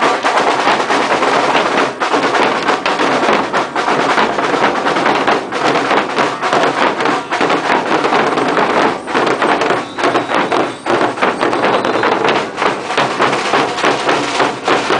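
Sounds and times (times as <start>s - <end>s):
marching drum band: 0.0s - 14.9s.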